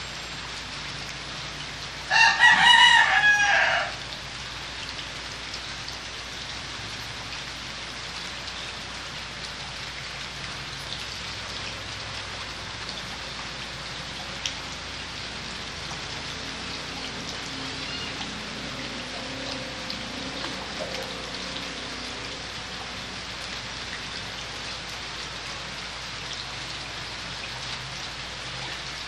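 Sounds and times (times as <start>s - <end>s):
steady rain-like hiss: 0.0s - 29.0s.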